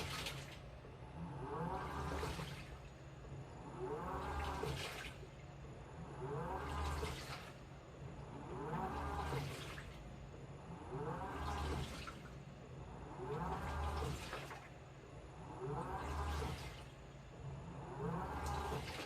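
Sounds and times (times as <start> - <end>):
washing machine motor whining: 0.0 - 19.0
water sloshing in washing machine: 0.0 - 19.0.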